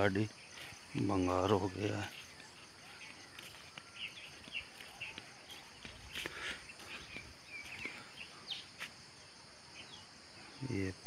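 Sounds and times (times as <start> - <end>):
high insect drone: 0.0 - 11.0
small birds chirping: 0.0 - 11.0.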